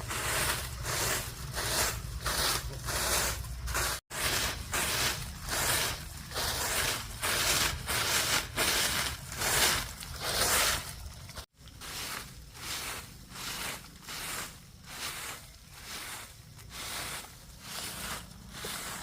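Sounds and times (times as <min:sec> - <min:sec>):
broom sweeping: 0:00.0 - 0:19.0.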